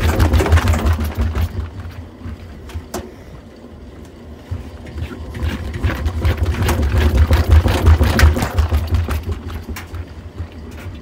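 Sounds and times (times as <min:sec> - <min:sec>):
washing machine drum whirring: 0:00.0 - 0:11.0.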